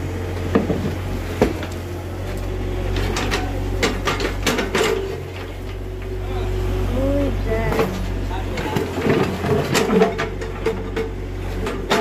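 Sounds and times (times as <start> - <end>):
excavator engine humming: 0.0 - 12.0.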